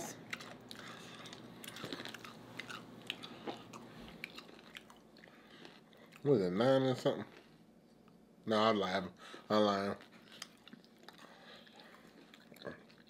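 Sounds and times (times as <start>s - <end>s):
people chewing: 0.1s - 8.2s, 9.2s - 13.0s.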